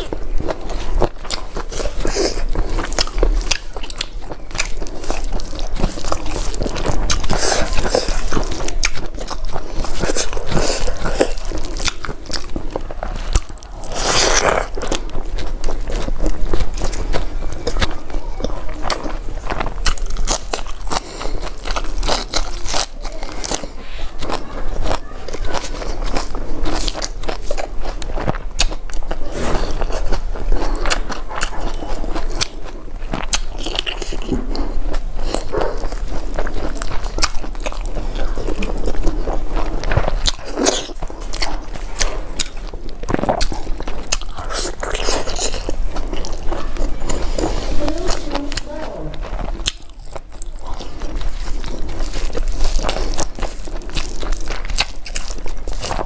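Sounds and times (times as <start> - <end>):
crisp food crunching: 0.0 - 56.0.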